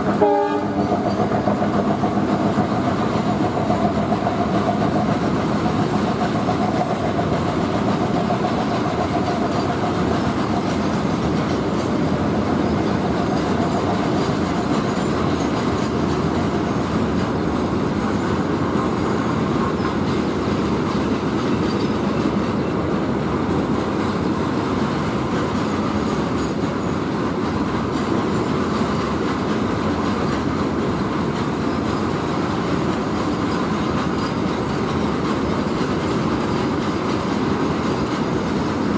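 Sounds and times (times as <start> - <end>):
freight train rolling on rails: 0.0 - 38.9.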